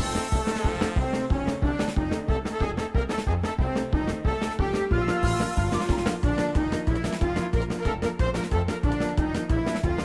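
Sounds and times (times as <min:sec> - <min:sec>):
bouncy beat with keyboard melody: 0:00.0 - 0:10.0.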